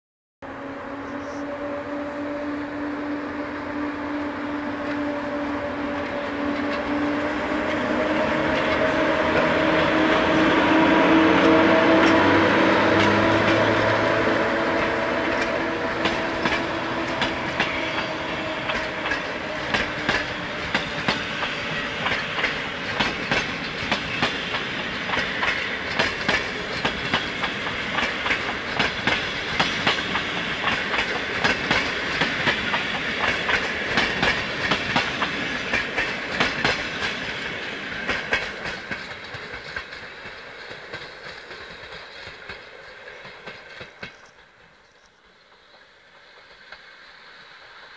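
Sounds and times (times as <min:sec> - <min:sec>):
electric locomotive hum: 0:00.4 - 0:47.9
train wheels clattering: 0:04.8 - 0:46.9.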